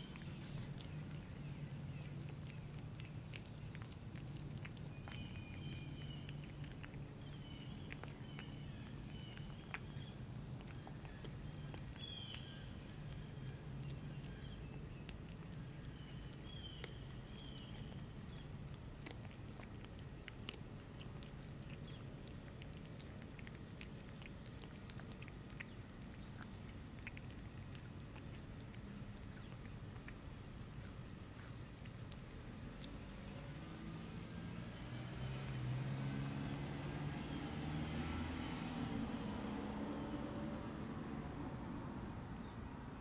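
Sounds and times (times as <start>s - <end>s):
cat chewing and crunching: 0.0s - 43.0s.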